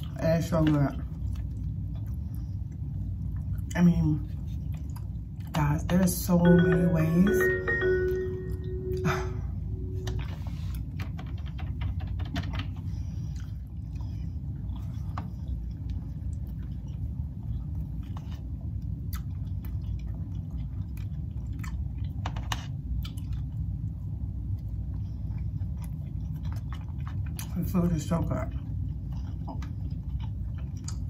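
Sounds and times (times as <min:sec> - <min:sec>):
chewing soft food: 0:00.0 - 0:06.3, 0:09.9 - 0:31.0
steady low hum: 0:00.0 - 0:31.0.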